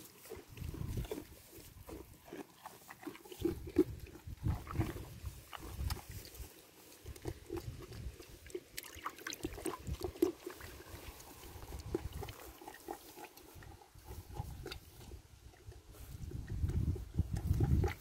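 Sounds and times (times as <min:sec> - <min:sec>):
goats slurping and chewing: 0:00.0 - 0:18.0.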